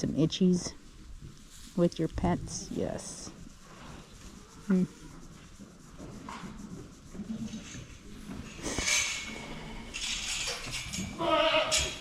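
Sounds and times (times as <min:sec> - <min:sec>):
hand rubbing goat's coat: 0:00.5 - 0:11.2.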